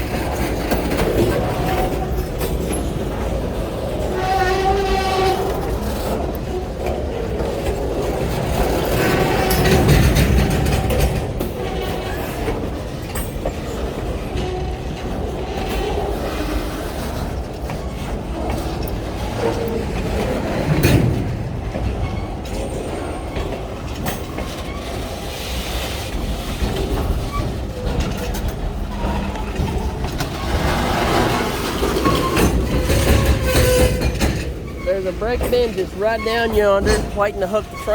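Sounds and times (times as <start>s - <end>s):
freight train rumbling on rails: 0.0s - 37.9s.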